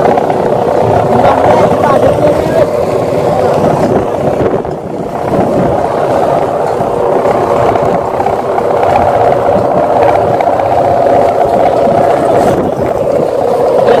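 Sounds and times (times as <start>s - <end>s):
kite hummer droning in wind: 0.0s - 14.0s.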